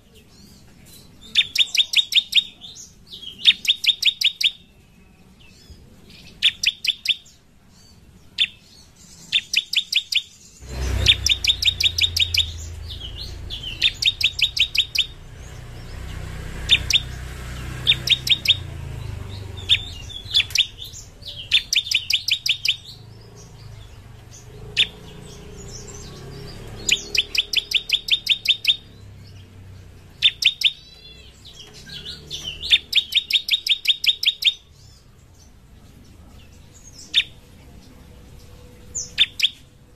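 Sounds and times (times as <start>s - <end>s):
bird singing rapid sharp chirps: 0.0s - 39.9s.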